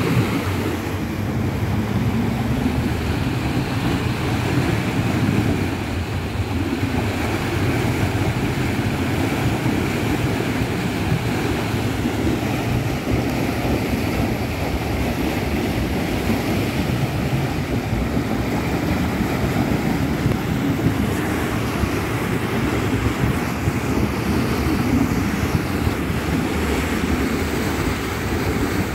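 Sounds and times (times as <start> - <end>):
water gushing from burst pipe: 0.0 - 28.9.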